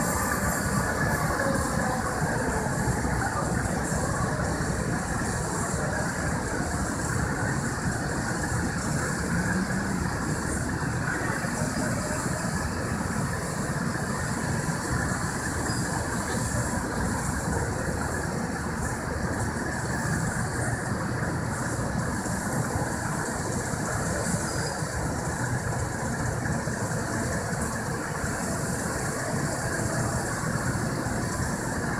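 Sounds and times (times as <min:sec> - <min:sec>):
heavy diesel engines rumbling: 0:00.0 - 0:31.9.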